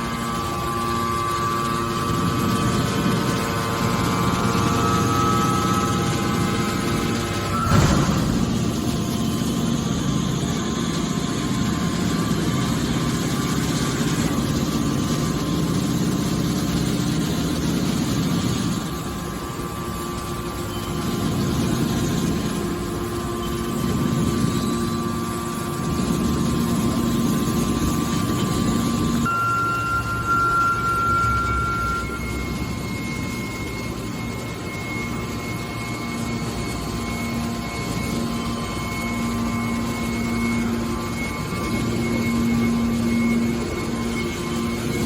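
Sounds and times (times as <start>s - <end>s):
faint steady whine: 0.0s - 45.0s
hydraulic baler motor drone: 0.0s - 45.0s.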